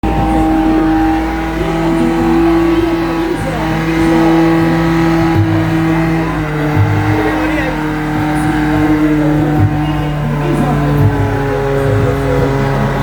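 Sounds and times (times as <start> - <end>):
car engine at high revs: 0.0 - 13.0
faint crowd voices: 0.0 - 13.0.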